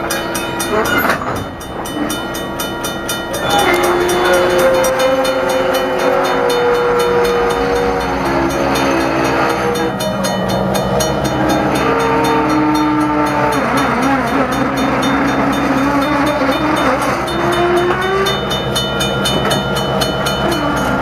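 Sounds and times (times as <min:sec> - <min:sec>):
rapid bell dinging: 0:00.0 - 0:21.0
train rumble: 0:00.0 - 0:21.0.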